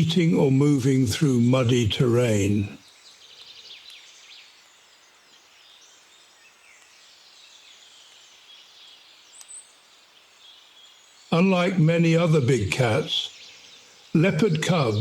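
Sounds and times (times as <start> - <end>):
high-pitched background hiss: 0.0 - 15.0.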